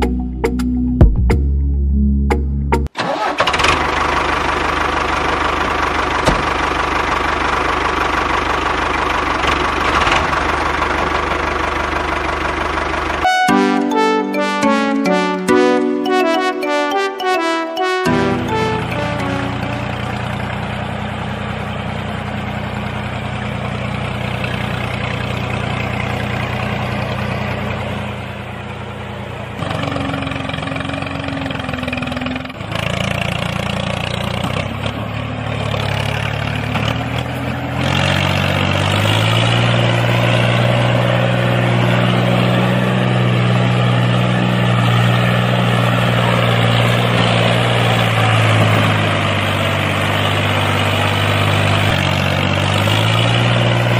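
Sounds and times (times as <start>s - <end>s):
tractor engine running: 2.3s - 53.9s.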